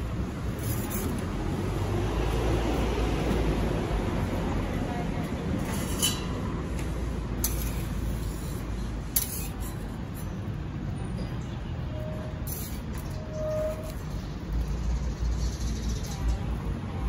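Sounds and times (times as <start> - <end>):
street noise rumble: 0.0 - 17.0.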